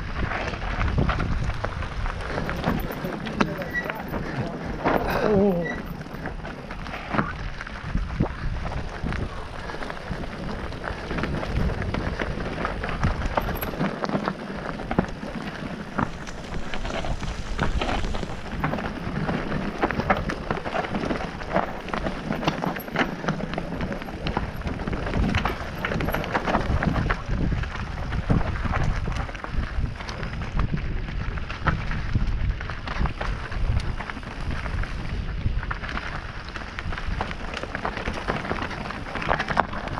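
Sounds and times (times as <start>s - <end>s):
bike clattering over stones: 0.0s - 39.9s
tyre and wind rumble: 0.0s - 39.9s.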